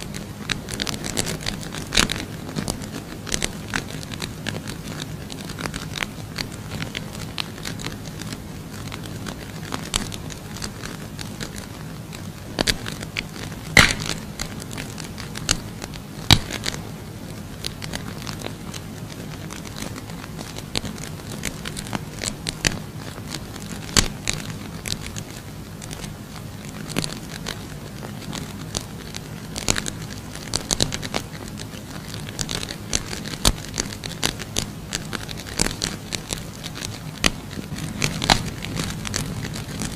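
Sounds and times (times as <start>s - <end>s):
low steady hum: 0.0s - 39.9s
matches burning and crackling: 0.0s - 39.9s.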